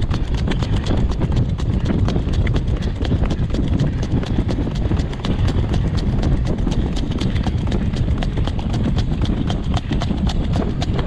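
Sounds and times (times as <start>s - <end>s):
horse hooves trotting on gravel: 0.0s - 11.0s
low rumble: 0.0s - 11.0s.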